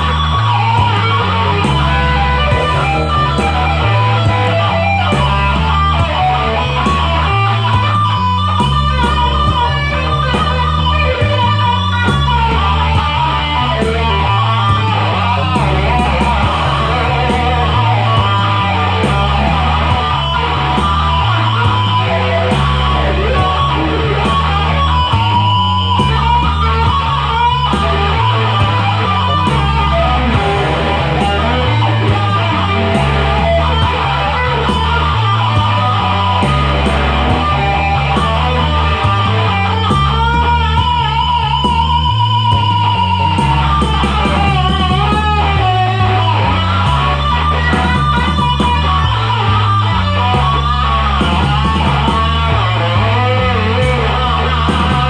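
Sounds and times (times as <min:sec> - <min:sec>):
bass line: 0:00.0 - 0:55.0
electric guitar lead: 0:00.0 - 0:55.0
steady drum beat: 0:00.0 - 0:55.0.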